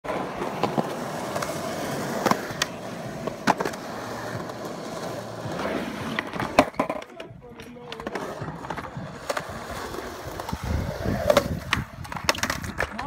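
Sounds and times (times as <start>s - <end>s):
skateboard wheels on concrete: 0.0s - 13.0s
skateboard clacks: 0.1s - 13.0s.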